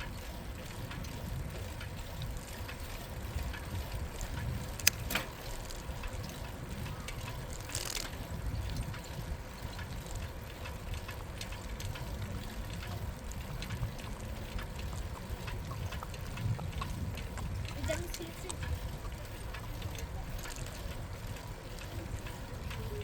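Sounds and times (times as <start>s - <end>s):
bicycle tyre and wind noise: 0.0s - 23.0s.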